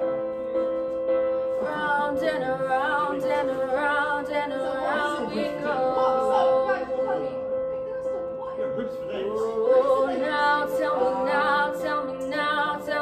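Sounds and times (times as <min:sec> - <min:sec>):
backing track of sustained chords: 0:00.0 - 0:13.0
young woman singing: 0:01.4 - 0:08.4, 0:09.4 - 0:13.0.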